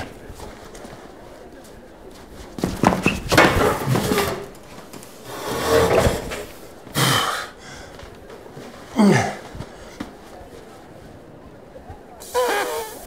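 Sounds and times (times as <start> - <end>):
clothing rustling: 0.0 - 6.9, 7.8 - 11.9.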